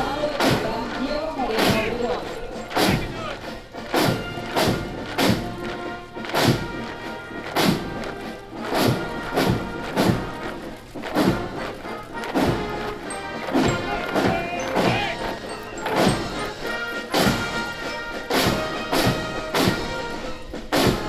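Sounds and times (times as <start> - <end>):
military band playing a march: 0.0 - 21.0.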